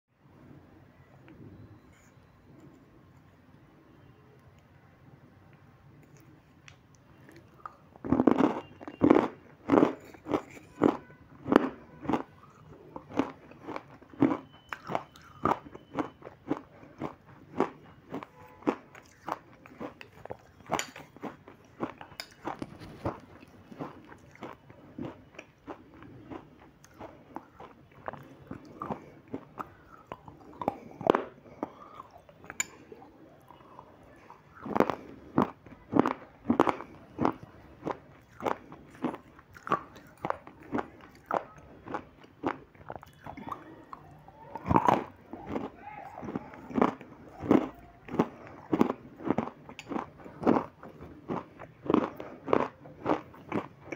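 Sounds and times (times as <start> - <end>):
person crunching and chewing: 6.0 - 53.9.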